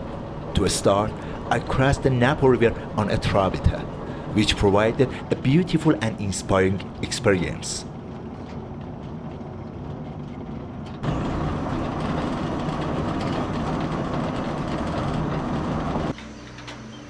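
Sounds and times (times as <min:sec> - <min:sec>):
motor running with low hum: 0:00.0 - 0:17.0.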